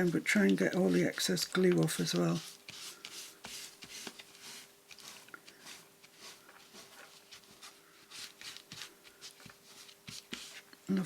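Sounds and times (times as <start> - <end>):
paper rubbing and rustling: 0.0 - 10.7
faint steady hum: 0.0 - 11.0.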